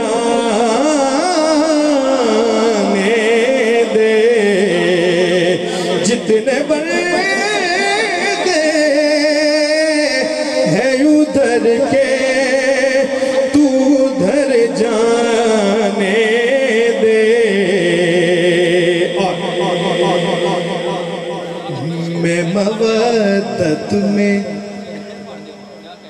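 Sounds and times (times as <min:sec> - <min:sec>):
steady held notes: 0:00.0 - 0:26.0.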